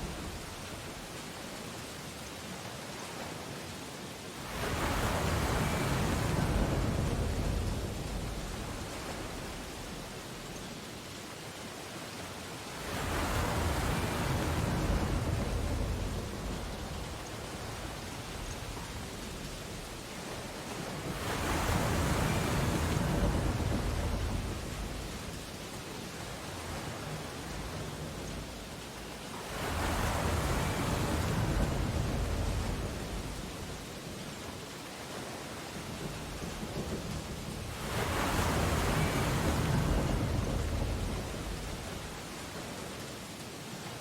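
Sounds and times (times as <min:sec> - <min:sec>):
steady hiss of surf: 0:00.0 - 0:44.0
ocean wave breaking: 0:04.4 - 0:10.6, 0:12.7 - 0:34.0, 0:35.1 - 0:42.9.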